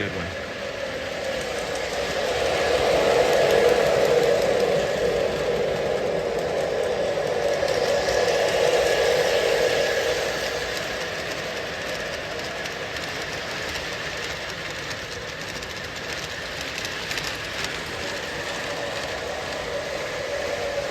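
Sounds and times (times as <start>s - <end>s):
model train rolling rumble: 0.0s - 20.9s
wheels clicking: 0.1s - 20.9s.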